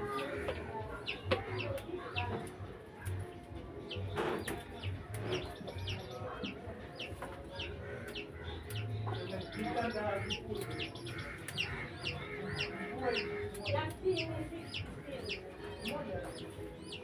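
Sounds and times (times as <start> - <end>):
birds chirping and clucking: 0.0 - 17.0.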